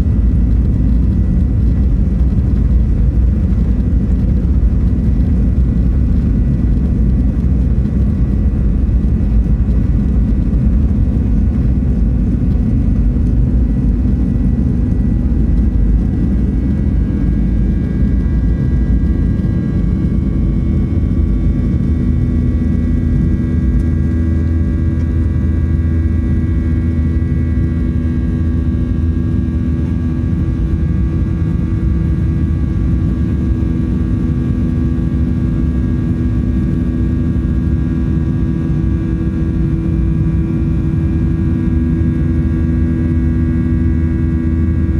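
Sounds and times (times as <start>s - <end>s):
jet engine low rumble: 0.0s - 44.9s.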